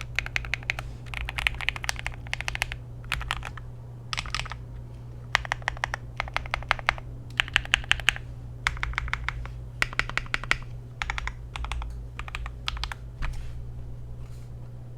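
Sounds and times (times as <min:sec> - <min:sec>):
mechanical keyboard typing: 0:00.0 - 0:04.6, 0:05.3 - 0:13.0
faint steady hum: 0:00.0 - 0:14.9.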